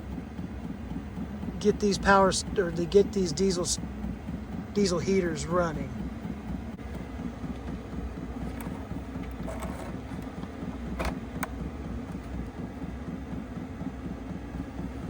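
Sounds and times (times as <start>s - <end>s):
diesel air heater running: 0.0s - 15.0s.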